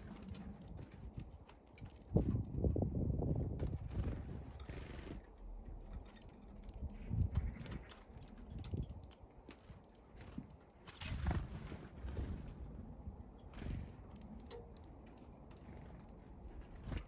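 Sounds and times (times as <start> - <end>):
birds pecking taps and clicks: 0.0 - 11.5, 13.1 - 17.0.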